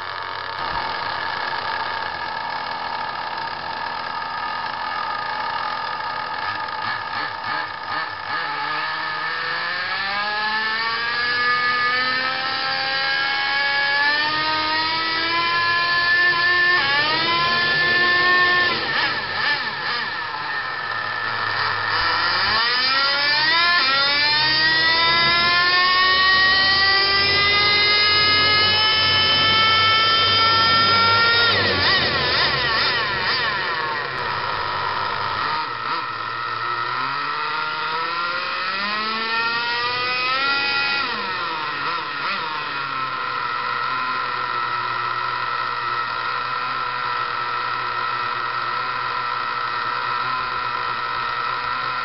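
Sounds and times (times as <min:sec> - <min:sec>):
model car drivetrain whining: 0:00.0 - 0:52.0.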